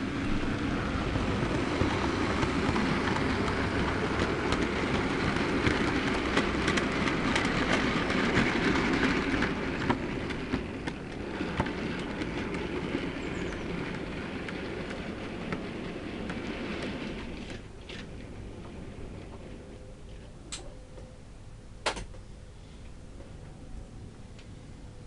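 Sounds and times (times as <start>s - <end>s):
model train motor and wheel rumble: 0.0s - 20.7s
wheels clicking over rail joints: 0.2s - 21.2s.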